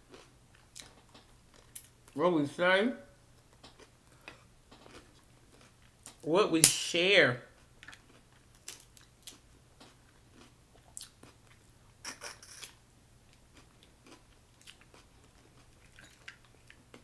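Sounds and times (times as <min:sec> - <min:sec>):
chewing and mouth sounds: 0:00.1 - 0:02.0, 0:03.4 - 0:06.2, 0:07.8 - 0:17.0.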